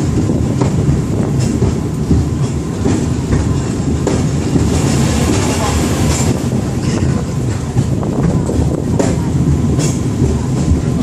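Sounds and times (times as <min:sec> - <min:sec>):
steel wheels rumbling on rails: 0:00.0 - 0:11.0.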